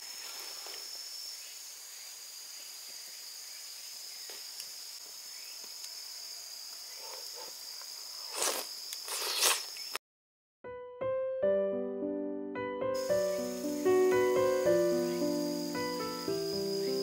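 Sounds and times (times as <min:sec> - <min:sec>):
crickets chirring: 0:00.0 - 0:10.0, 0:13.0 - 0:17.0.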